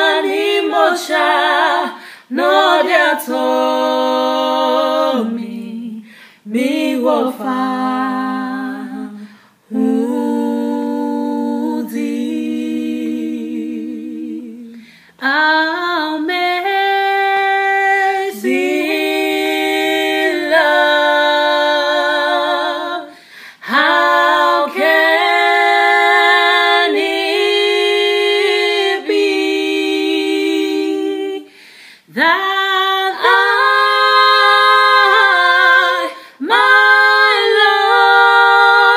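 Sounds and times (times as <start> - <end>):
women singing unaccompanied: 0.0 - 38.9.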